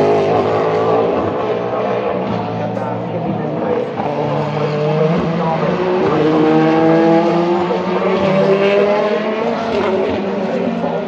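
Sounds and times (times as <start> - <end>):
other race car engines: 0.0 - 11.0
race car engine accelerating: 0.0 - 11.0.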